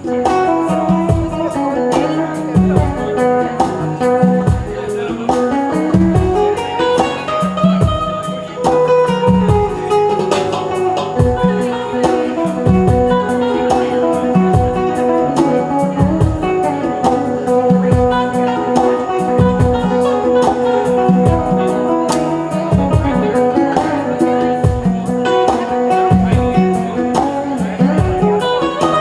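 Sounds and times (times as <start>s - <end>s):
live reggae band: 0.0s - 29.0s.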